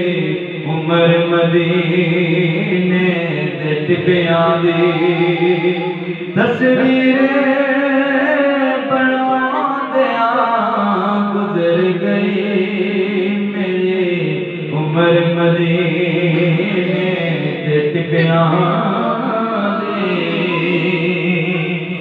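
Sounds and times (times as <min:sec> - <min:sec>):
man singing devotional chant: 0:00.0 - 0:22.0.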